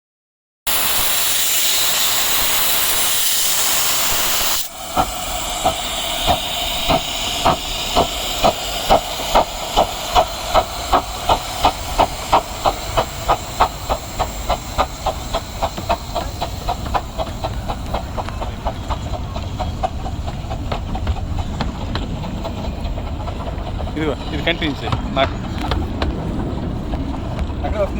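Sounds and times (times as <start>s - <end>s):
locomotive exhaust chuffs: 0.7s - 27.9s
low rumble of moving train: 0.7s - 27.9s
steam hissing: 0.7s - 27.9s.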